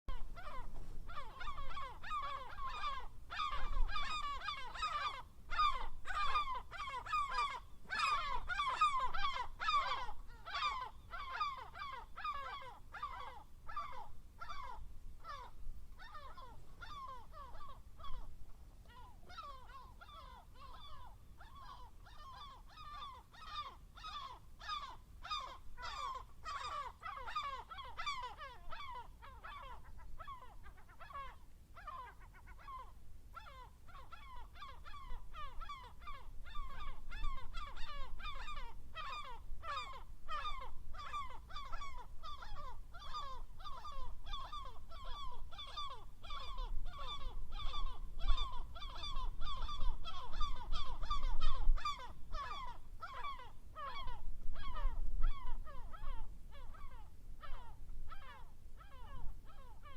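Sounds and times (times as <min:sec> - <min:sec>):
gulls calling: 0:00.1 - 0:59.9.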